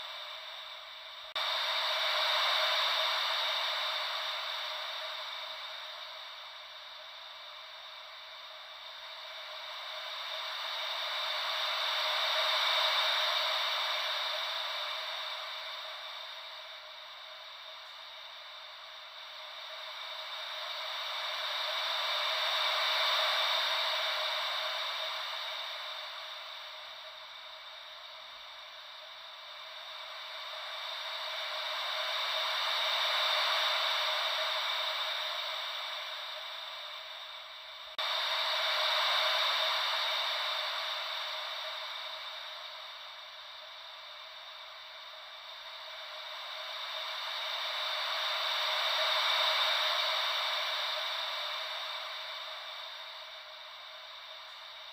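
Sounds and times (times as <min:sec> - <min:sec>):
ocean wave white noise: 0:00.0 - 0:54.9.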